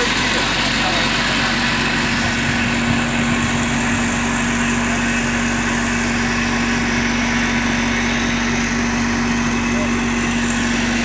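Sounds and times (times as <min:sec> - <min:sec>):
sand screening machine humming: 0:00.0 - 0:11.0.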